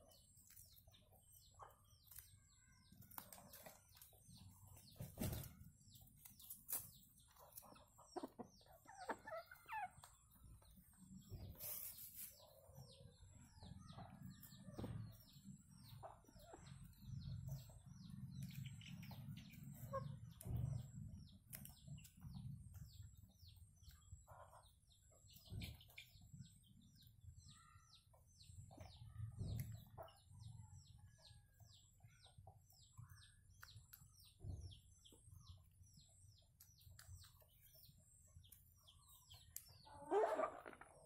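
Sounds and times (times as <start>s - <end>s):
bird chirping: 0.0s - 41.0s.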